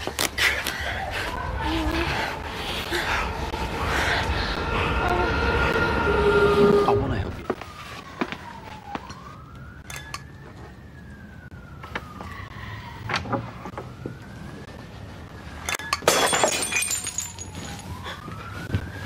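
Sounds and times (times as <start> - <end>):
emergency siren wailing: 0.8 - 16.0, 16.6 - 19.0.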